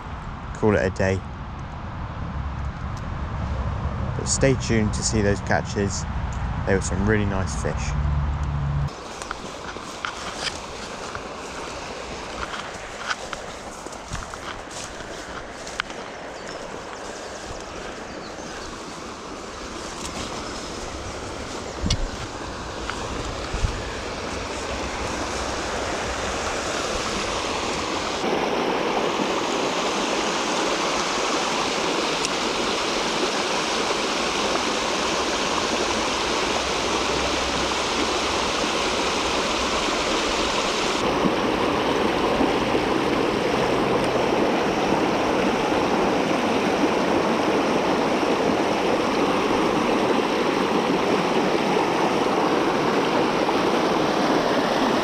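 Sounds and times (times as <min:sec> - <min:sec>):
river water rushing: 0:08.9 - 0:55.0.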